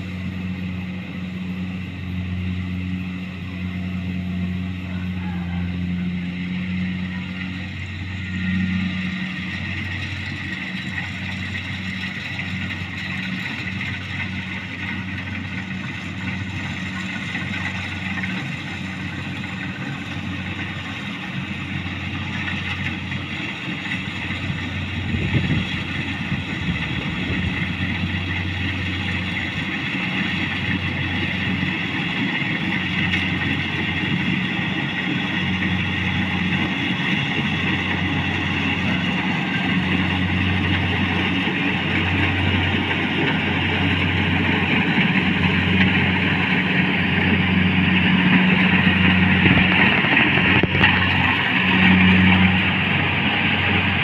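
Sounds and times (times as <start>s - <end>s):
harvester diesel engine running: 0.0s - 54.0s.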